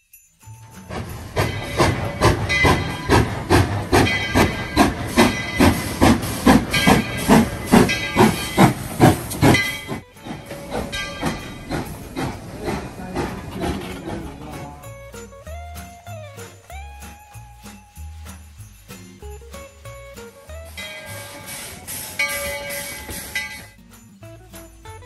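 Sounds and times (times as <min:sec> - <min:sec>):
steam locomotive chuffing: 0:00.5 - 0:25.0
hissing steam: 0:00.8 - 0:24.0.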